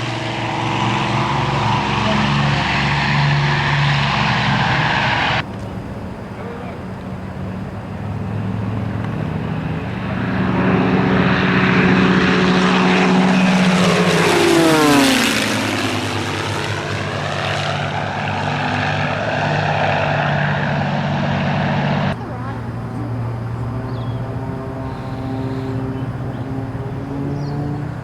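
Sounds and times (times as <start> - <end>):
propeller aircraft passing: 0.0 - 28.0.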